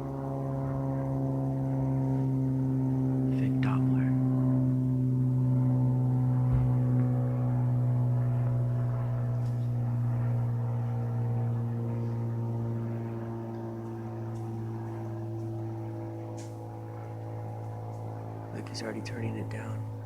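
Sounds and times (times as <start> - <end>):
light airplane engine drone: 0.0 - 20.0.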